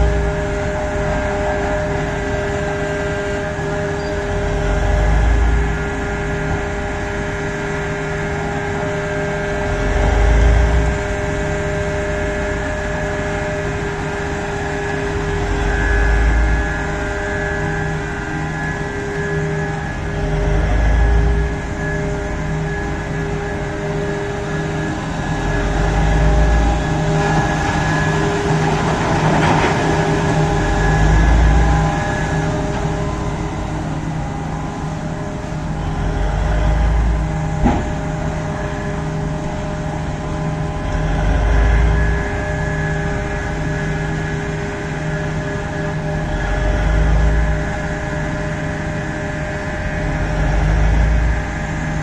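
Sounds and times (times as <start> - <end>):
excavator engine under load: 0.0 - 52.0.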